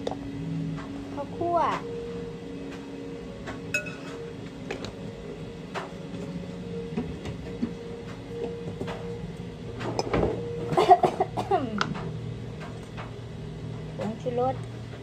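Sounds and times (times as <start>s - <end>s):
kitchen appliance hum: 0.0s - 15.0s.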